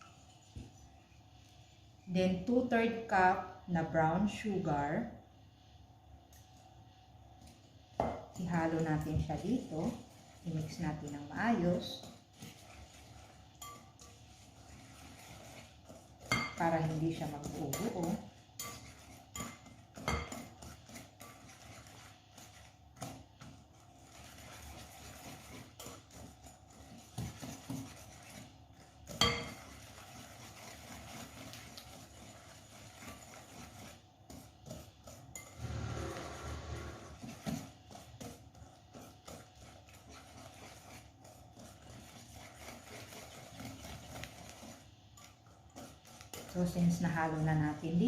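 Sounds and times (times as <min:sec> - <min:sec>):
whisk clinking against bowl: 0:08.0 - 0:36.0, 0:36.8 - 0:48.0.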